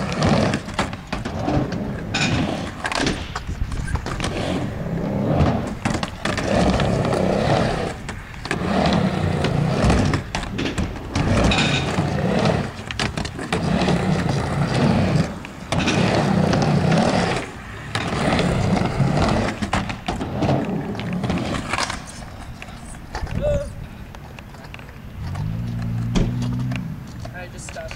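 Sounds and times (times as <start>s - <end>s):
skateboard wheels rolling on ramp: 0.0s - 27.9s.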